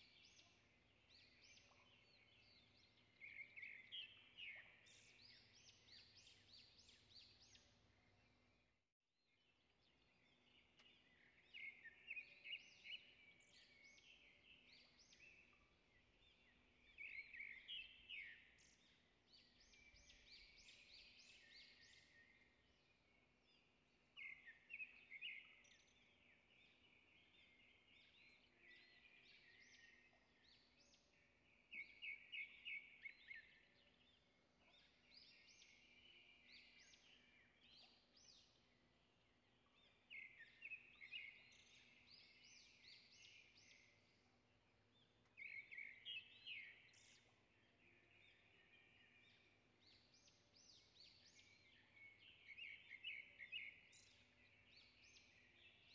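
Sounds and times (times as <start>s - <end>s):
faint birdsong chirps and trills: 0.0s - 55.9s.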